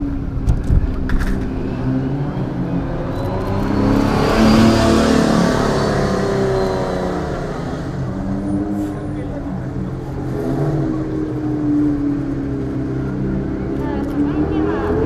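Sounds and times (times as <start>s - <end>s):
car engine driving by: 1.2s - 15.0s.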